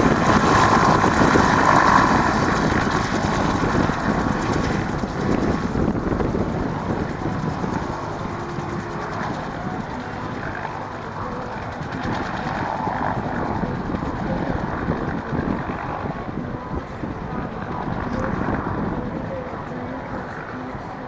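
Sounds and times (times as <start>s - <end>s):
aircraft drone: 0.0s - 21.0s.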